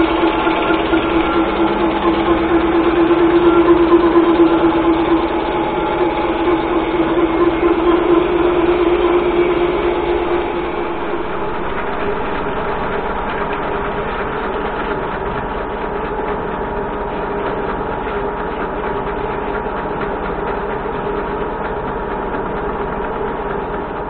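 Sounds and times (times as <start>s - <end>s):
metal lathe whirring: 0.0s - 24.0s.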